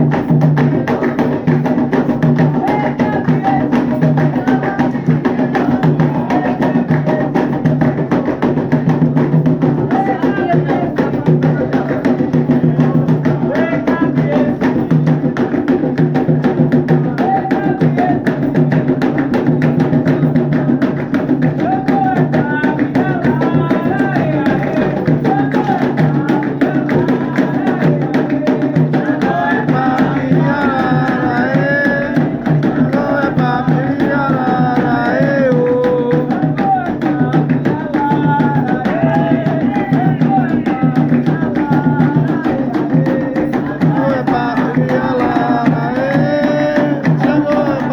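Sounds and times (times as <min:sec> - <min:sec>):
hand drums playing fast rhythm: 0:00.0 - 0:47.9
sung chant: 0:00.0 - 0:47.9.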